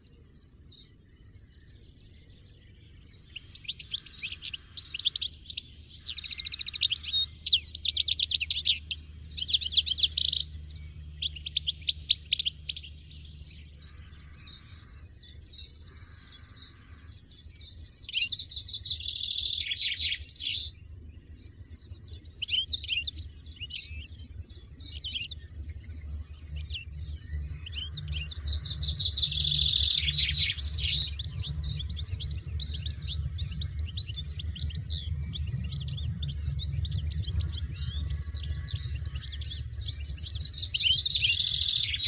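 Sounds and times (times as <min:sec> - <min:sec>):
goldfinch twittering song: 0:00.0 - 0:42.0.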